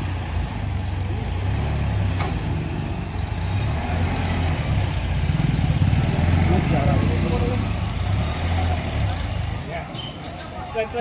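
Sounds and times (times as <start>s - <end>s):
tractor engine throbbing: 0.0s - 9.7s.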